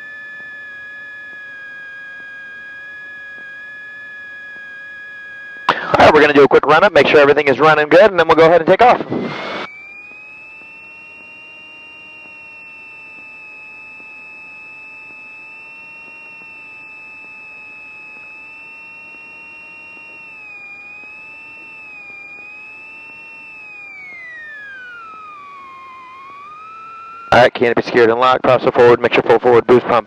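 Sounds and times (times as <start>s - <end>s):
light airplane engine whine: 0.0s - 30.0s.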